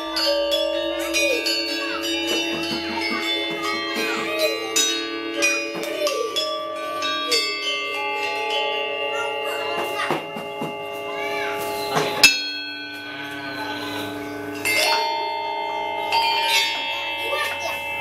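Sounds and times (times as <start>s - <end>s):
children calling: 0.0s - 18.0s
metallophones ringing: 0.0s - 18.0s.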